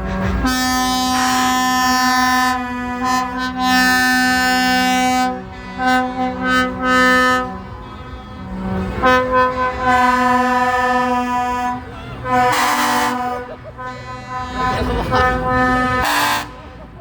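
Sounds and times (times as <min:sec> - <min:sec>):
truck air horn blasts: 0:00.0 - 0:17.0.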